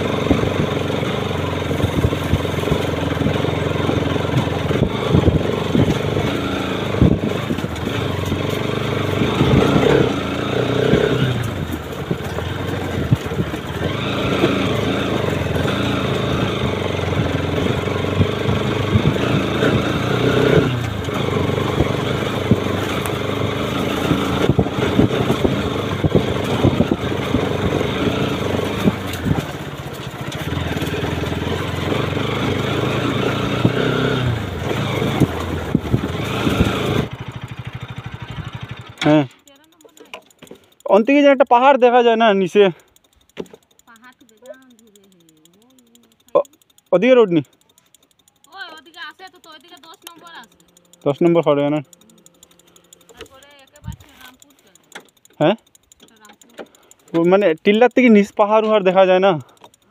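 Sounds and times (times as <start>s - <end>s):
motorcycle engine under load: 0.0s - 59.9s.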